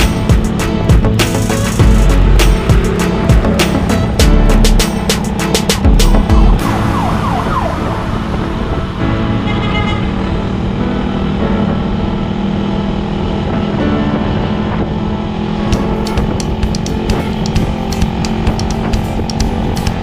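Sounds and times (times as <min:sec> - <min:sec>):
background music with held notes: 0:00.0 - 0:20.0.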